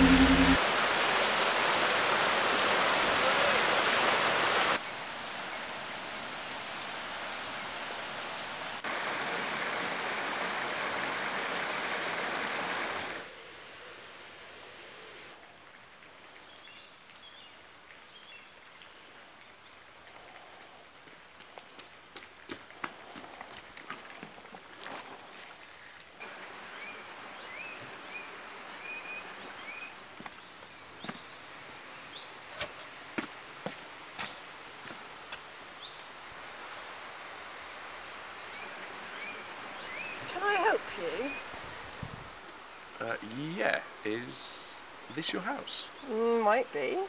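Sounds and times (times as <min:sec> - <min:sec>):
rushing water and rain: 0:00.0 - 0:47.0.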